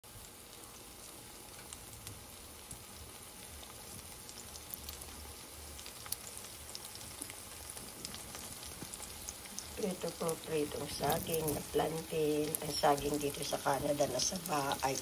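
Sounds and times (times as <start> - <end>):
plantain sizzling in oil: 0.0 - 15.0.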